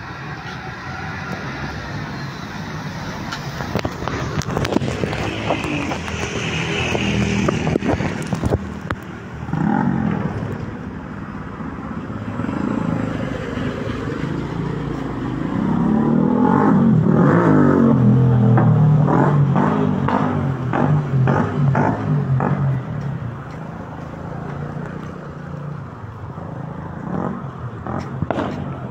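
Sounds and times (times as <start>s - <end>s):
car engines running: 0.0s - 28.9s
vehicles driving past on wet road: 0.0s - 28.9s.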